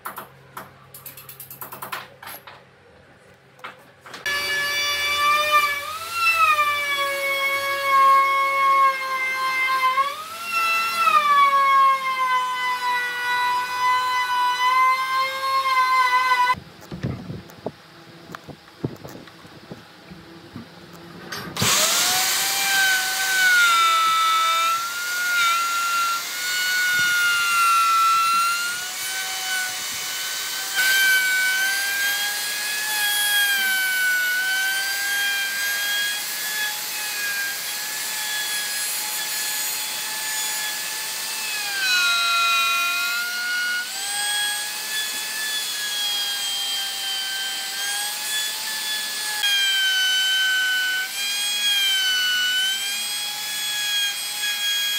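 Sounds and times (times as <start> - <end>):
power tool whining on wood: 4.2 - 16.6, 20.9 - 54.9.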